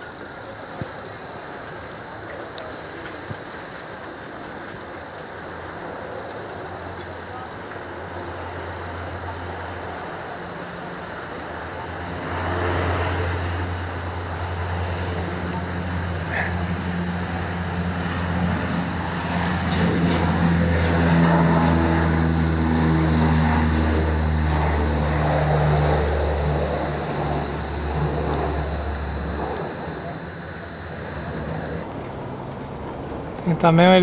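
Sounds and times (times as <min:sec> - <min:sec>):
aircraft engines droning: 0:00.0 - 0:34.0.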